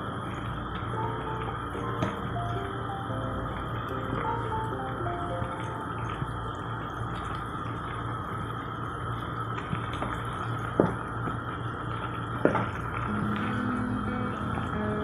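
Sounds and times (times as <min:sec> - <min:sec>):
broth bubbling in a pan: 0:00.0 - 0:15.0.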